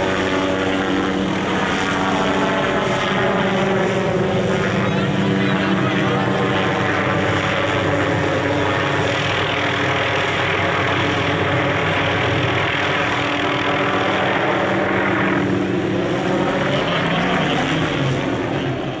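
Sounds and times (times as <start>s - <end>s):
helicopter flying overhead: 0.0s - 19.0s.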